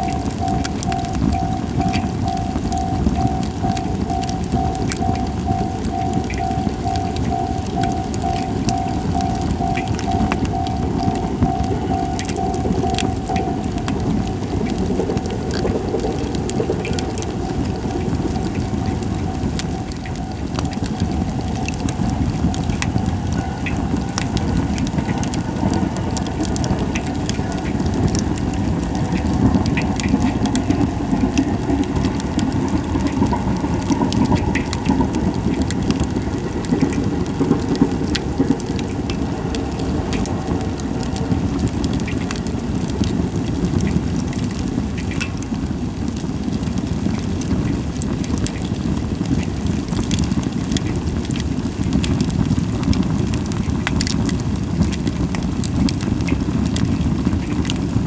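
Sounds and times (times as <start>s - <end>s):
campfire flames rushing: 0.0s - 58.0s
firewood crackling and popping: 0.0s - 58.0s.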